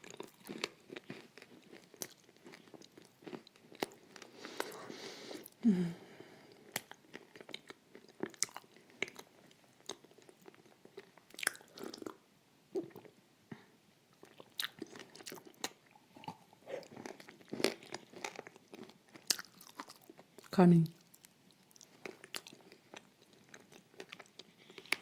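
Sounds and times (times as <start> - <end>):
person chewing crunchy food: 0.0 - 5.6, 6.5 - 12.2, 14.2 - 25.0.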